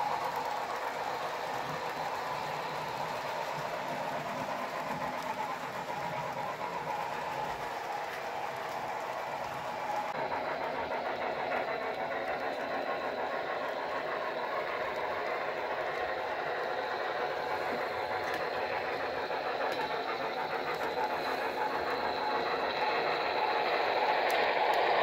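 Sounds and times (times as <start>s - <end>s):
train wheels rolling on track: 0.0s - 25.0s.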